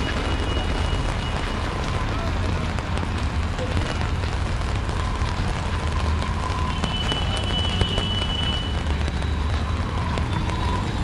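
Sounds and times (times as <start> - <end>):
rain falling on street: 0.0 - 11.0.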